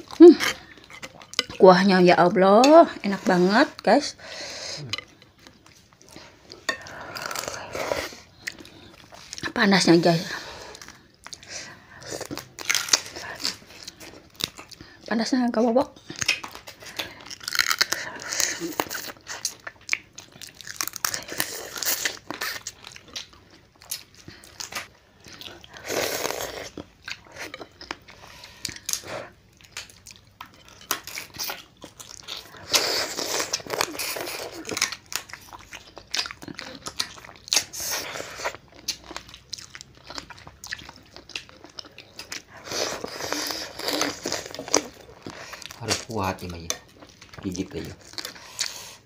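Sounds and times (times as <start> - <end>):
crunching and chewing shells: 4.8 - 15.1, 15.9 - 49.0.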